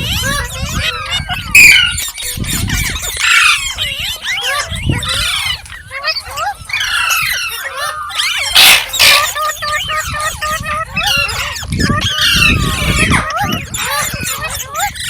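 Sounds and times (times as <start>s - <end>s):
parrot chirping and chattering: 0.0s - 15.0s
parrot harsh squawks: 0.0s - 15.0s.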